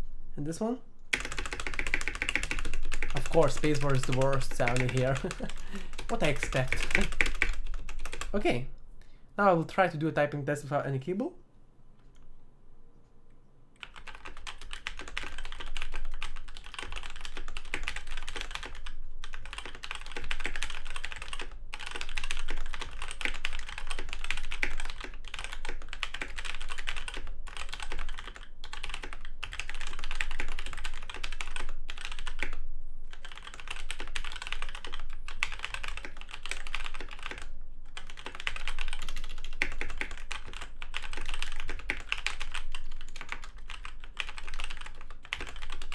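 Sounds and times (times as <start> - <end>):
mechanical keyboard typing: 1.1 - 8.6, 13.8 - 45.9.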